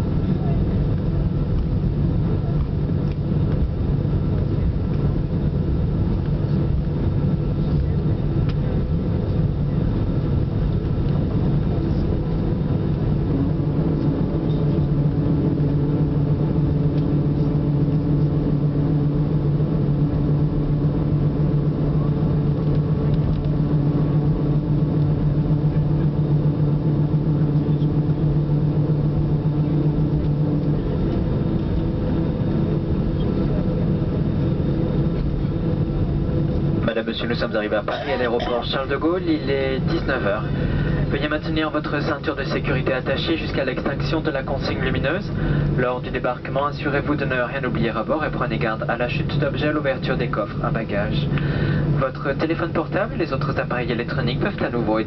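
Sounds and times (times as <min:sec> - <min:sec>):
airliner cabin rumble: 0:00.0 - 0:55.0
jet engines idling hum: 0:00.0 - 0:55.0.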